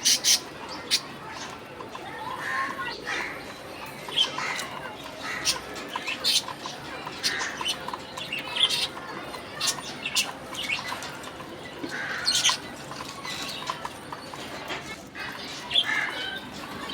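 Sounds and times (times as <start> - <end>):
budgies chirping and squawking: 0.0 - 1.6, 2.3 - 16.9.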